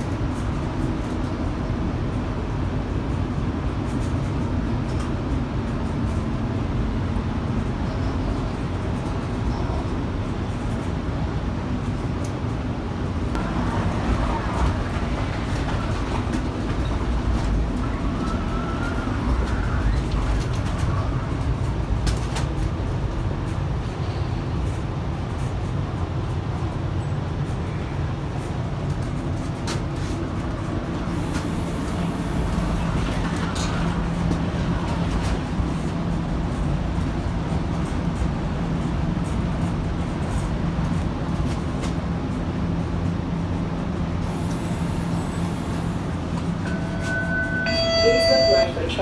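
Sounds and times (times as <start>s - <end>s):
streetcar rumbling on rails: 0.0s - 49.0s.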